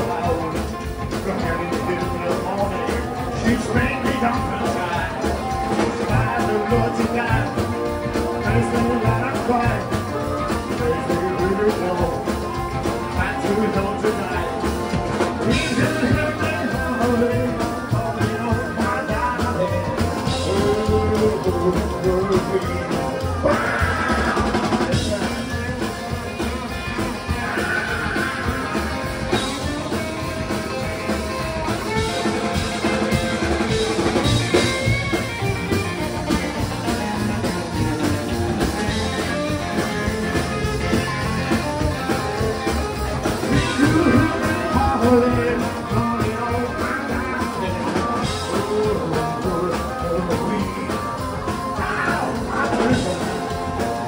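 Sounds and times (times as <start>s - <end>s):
drums: 0.0s - 54.0s
electric guitar lead: 0.0s - 54.0s
person singing: 0.0s - 54.0s
upright bass: 0.0s - 54.0s.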